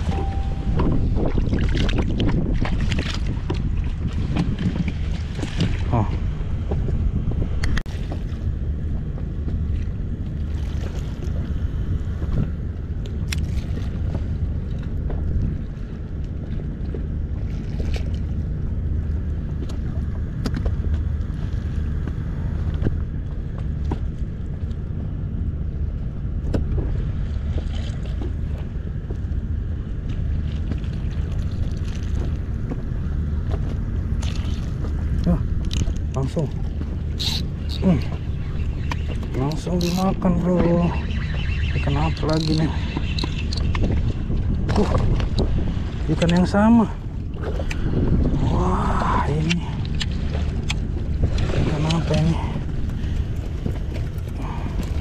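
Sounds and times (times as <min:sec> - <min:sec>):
small outboard motor running: 0:00.0 - 0:55.0
wind on microphone: 0:00.0 - 0:55.0.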